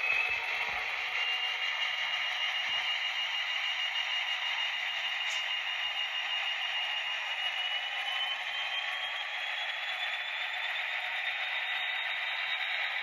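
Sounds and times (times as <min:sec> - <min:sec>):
diesel engine sound from small speaker: 0:00.0 - 0:13.0.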